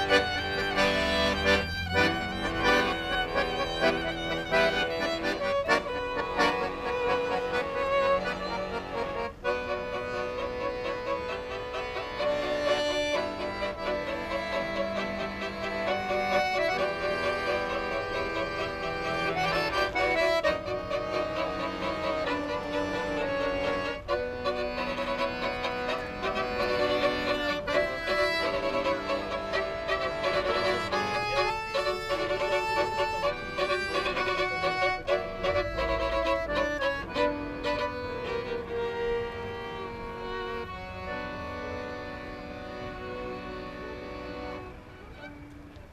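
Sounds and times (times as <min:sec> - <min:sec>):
piano accordion: 0:00.0 - 0:45.9
violin: 0:00.0 - 0:45.9.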